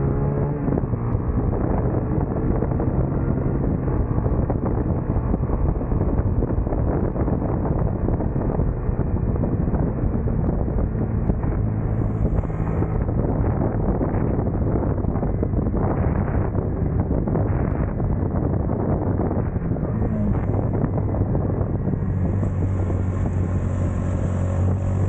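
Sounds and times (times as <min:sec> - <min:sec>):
racing motorcycle engine: 0:00.0 - 0:25.0
wind buffeting microphone: 0:00.0 - 0:25.0.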